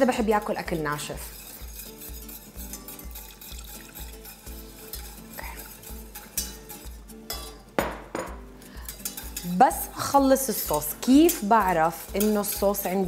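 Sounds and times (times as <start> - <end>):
spoon scraping in a saucepan: 0.0 - 7.7, 8.7 - 13.0
soft background music: 0.0 - 13.0.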